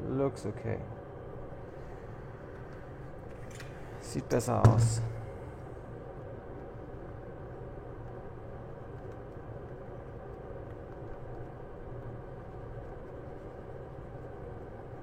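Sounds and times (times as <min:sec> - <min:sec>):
electric fan hum: 0:00.0 - 0:15.0.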